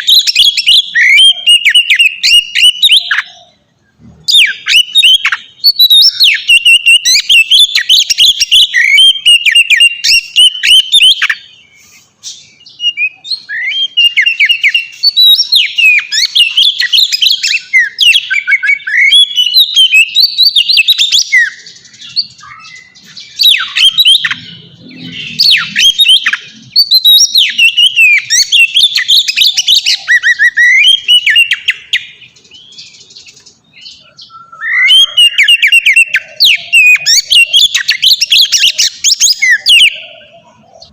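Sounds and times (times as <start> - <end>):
magpie-robin singing: 0.0 - 40.9.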